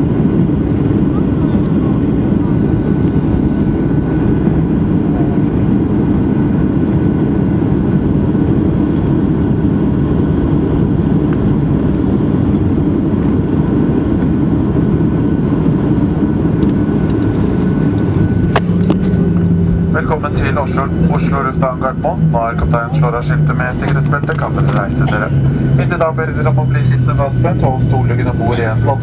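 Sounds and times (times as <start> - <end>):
jet engines rumbling: 0.0 - 29.0.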